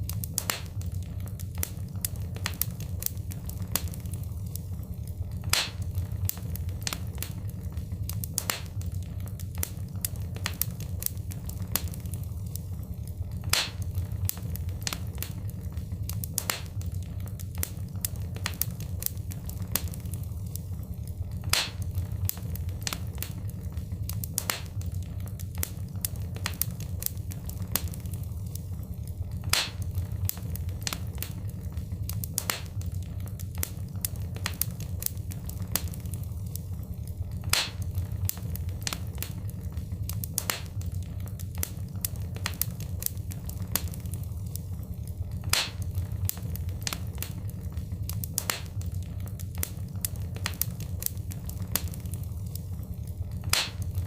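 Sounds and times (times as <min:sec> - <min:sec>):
low fire rumble: 0:00.0 - 0:54.0
wood fire crackling: 0:00.0 - 0:54.0.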